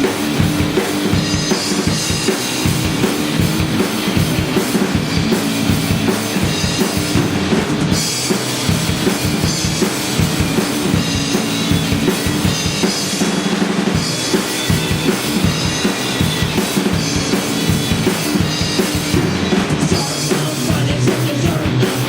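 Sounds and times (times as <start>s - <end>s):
drum kit beat: 0.0s - 22.0s
live rock band playing: 0.0s - 22.0s.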